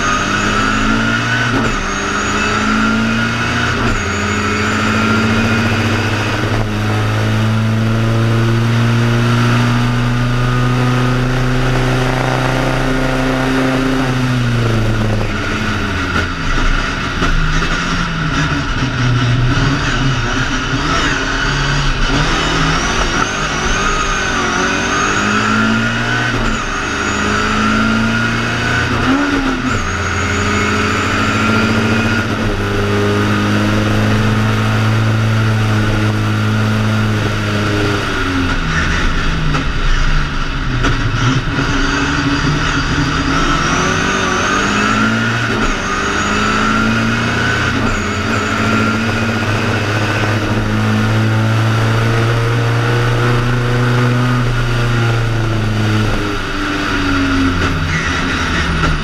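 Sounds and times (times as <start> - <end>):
car engine revving high: 0.0 - 59.0.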